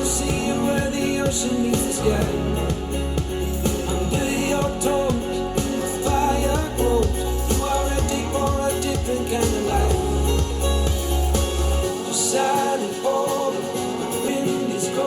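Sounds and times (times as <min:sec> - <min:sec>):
music through speakers: 0:00.0 - 0:15.0.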